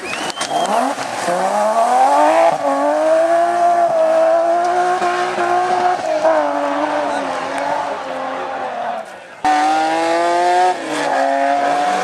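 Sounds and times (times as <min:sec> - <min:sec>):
car engine accelerating hard: 0:00.4 - 0:08.8, 0:09.4 - 0:12.0.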